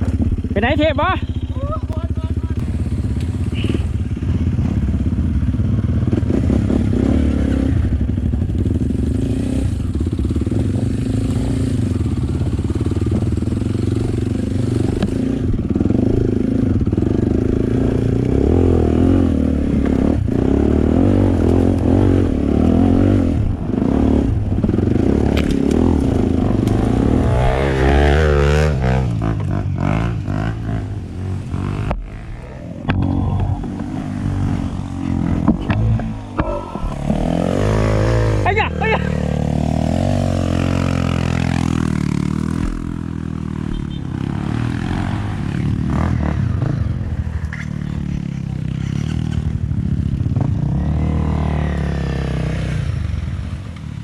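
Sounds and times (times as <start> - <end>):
dirt bike engine revving: 0.0 - 53.2.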